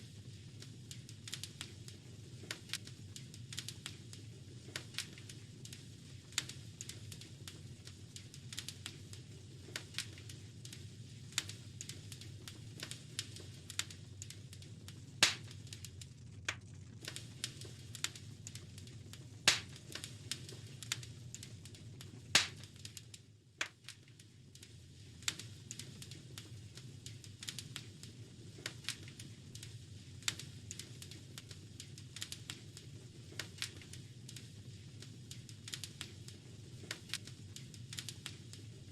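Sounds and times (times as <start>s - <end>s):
wood fire crackling: 0.0s - 38.9s
loud fire pops: 0.2s - 38.9s.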